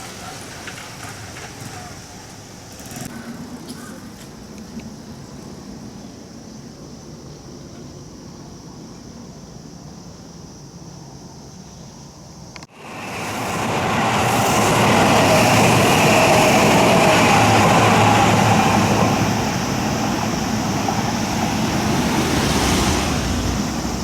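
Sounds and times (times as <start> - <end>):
train running past: 0.0 - 11.6, 12.2 - 24.0.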